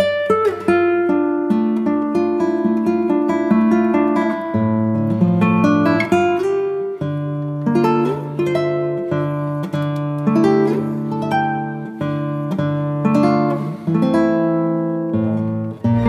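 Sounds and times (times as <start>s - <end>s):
guitar plucking and strumming: 0.0s - 16.0s.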